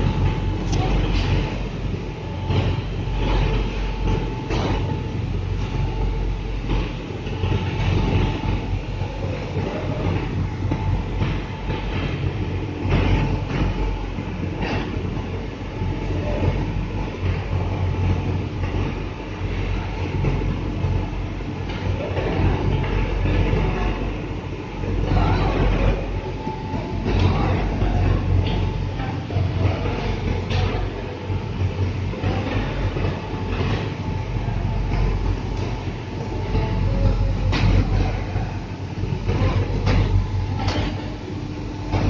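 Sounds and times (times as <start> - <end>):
knocks and clatter: 0.0 - 41.1
conveyor machine hum: 0.0 - 42.0.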